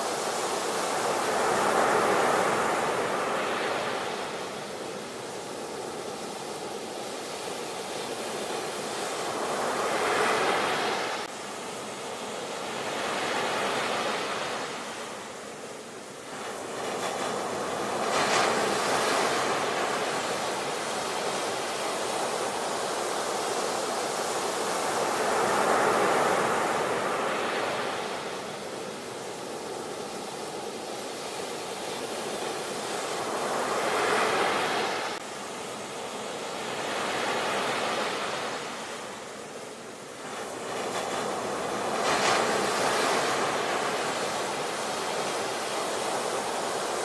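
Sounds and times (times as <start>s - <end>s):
sea waves breaking on shore: 0.0s - 47.0s.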